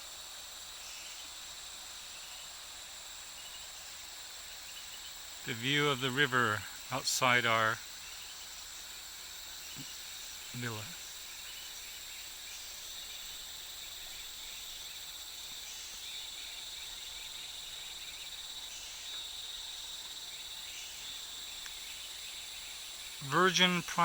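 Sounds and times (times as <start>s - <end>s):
insects shrilling: 0.0s - 24.0s.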